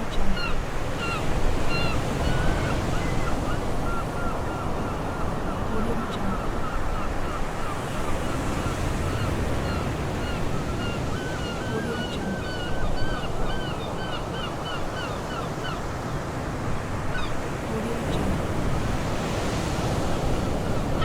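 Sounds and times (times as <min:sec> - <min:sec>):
surf washing on beach: 0:00.0 - 0:13.5, 0:14.8 - 0:21.0
gulls calling: 0:00.0 - 0:16.1, 0:19.6 - 0:21.0.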